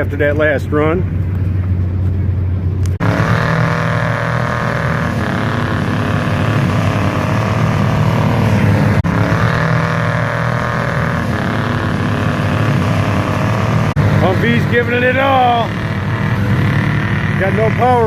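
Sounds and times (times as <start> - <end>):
large vehicle engine revving: 0.0 - 18.0.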